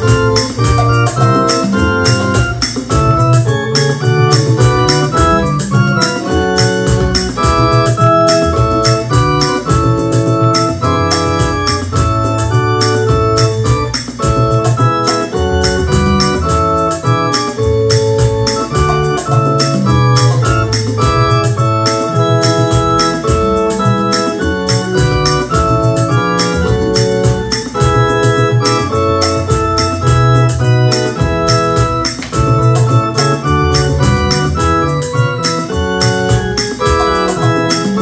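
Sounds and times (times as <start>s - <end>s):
deep bass line: 0.0s - 38.0s
electronic keyboard playing hymn: 0.0s - 38.0s
quick ticking beat: 0.0s - 38.0s.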